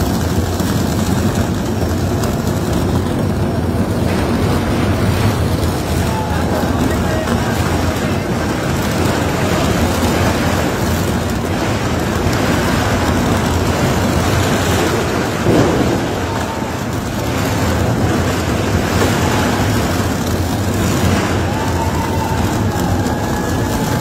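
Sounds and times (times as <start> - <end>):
hoses spraying water on rock: 0.0 - 24.0
tunnel boring machine roar: 0.0 - 24.0.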